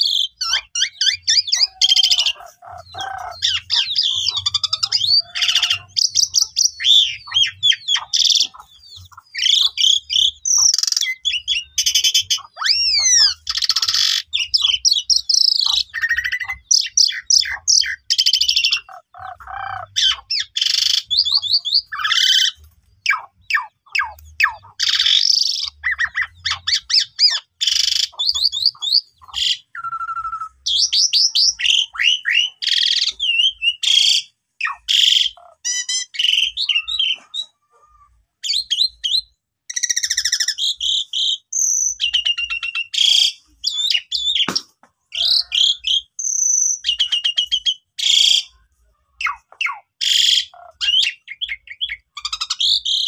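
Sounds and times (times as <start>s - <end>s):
starling singing: 0.0s - 48.6s, 49.2s - 53.0s.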